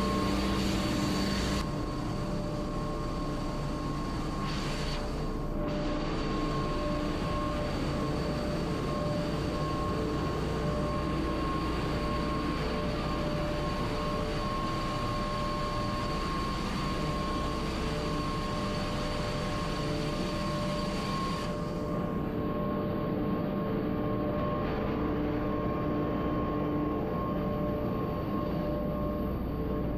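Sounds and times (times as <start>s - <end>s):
constant whining tones: 0.0s - 29.9s
engine room machinery drone: 0.0s - 29.9s.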